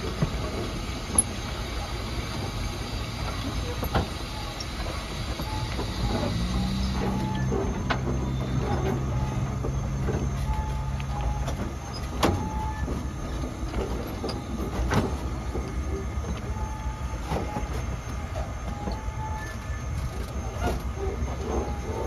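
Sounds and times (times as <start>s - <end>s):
wheel squeal: 1.1s - 22.0s.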